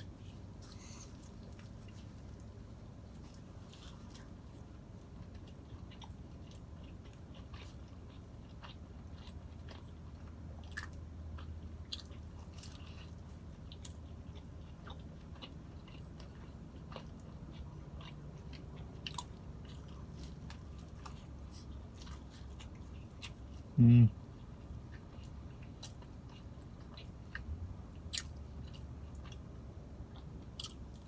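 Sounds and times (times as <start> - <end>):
chewing and biting food: 0.0 - 31.0
low steady hum: 0.0 - 31.0.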